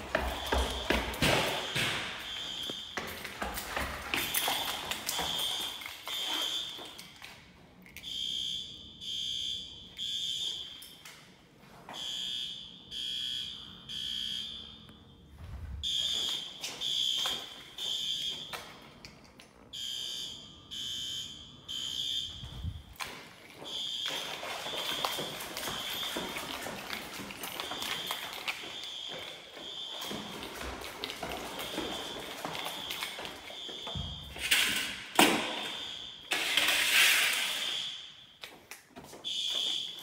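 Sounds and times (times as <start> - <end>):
fire alarm horn blasts: 0.0 - 7.3, 8.0 - 10.8, 11.9 - 19.0, 19.7 - 38.5, 39.2 - 40.0.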